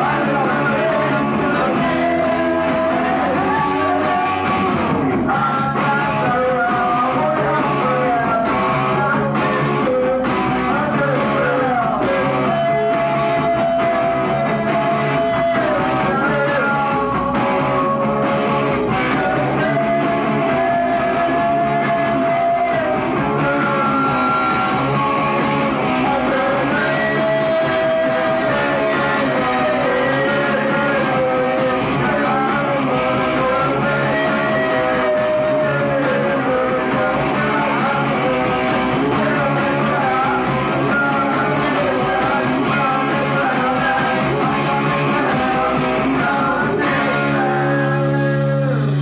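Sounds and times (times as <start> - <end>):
bass and drums: 0.0 - 49.0
distorted electric guitar: 0.0 - 49.0
person singing: 0.0 - 49.0.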